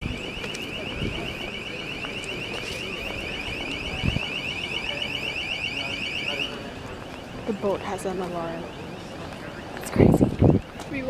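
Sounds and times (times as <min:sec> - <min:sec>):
high-pitched pulsing alarm beep: 0:00.0 - 0:11.0
street noise: 0:00.0 - 0:11.0.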